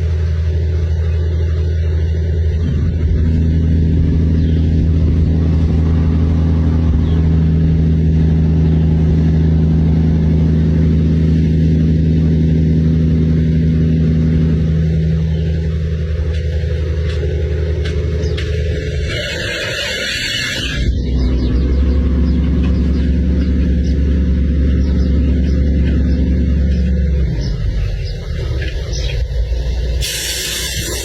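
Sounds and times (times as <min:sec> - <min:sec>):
heavy truck engine droning: 0:00.0 - 0:31.0.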